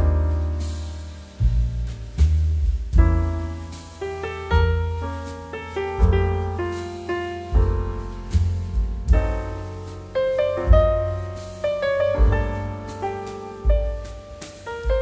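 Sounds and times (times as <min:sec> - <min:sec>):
deep bass beat: 0:00.0 - 0:15.0
piano background music: 0:00.0 - 0:15.0.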